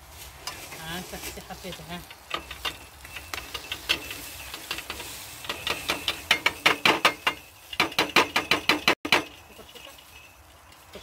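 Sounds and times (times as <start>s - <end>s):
wire grill basket rattling: 0.5s - 11.0s.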